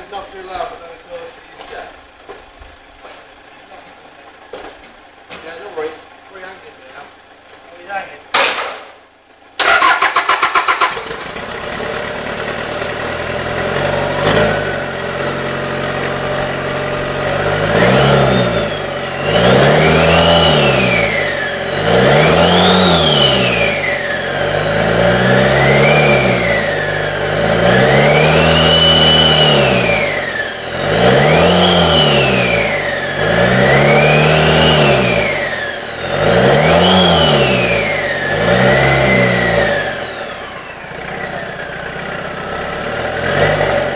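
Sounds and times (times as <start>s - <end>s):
diesel engine cranking and revving: 0.0s - 43.9s.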